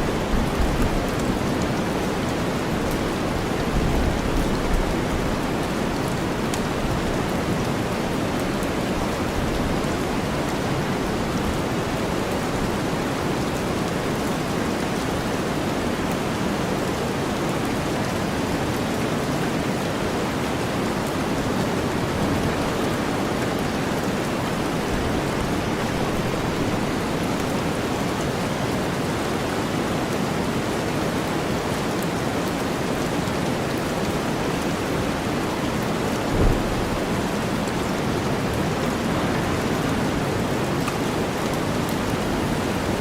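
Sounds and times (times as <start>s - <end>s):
steady rainfall: 0.0s - 43.0s.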